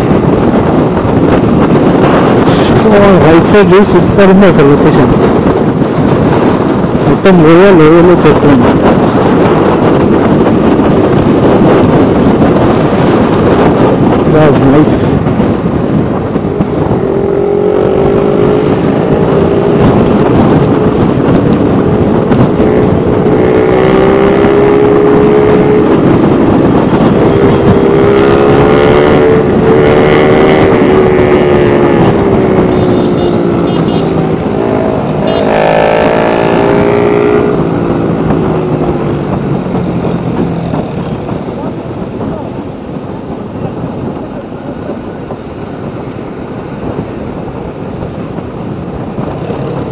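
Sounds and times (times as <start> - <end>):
wind and road rush: 0.0 - 49.9
motorcycle engine running: 8.5 - 49.9.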